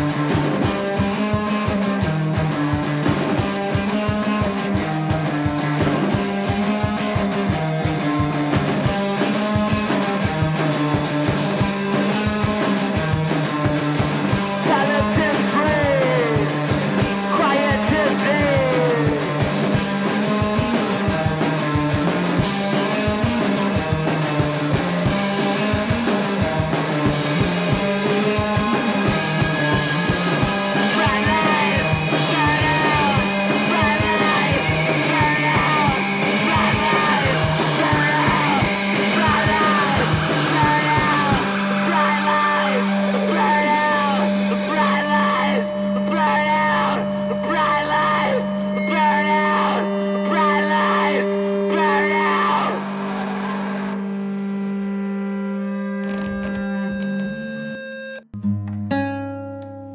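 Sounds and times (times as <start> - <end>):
rock music with steady beat: 0.0 - 58.1.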